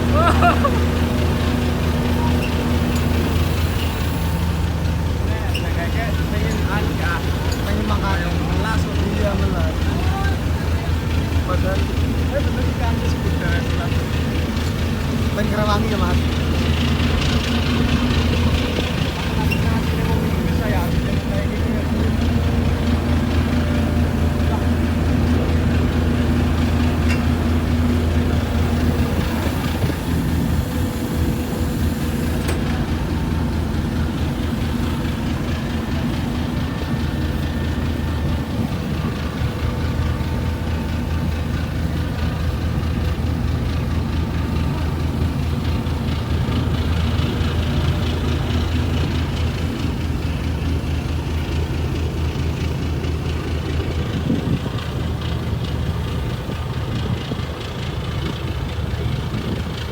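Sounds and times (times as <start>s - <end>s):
boat diesel engine droning: 0.0s - 59.9s
water wash: 0.0s - 59.9s.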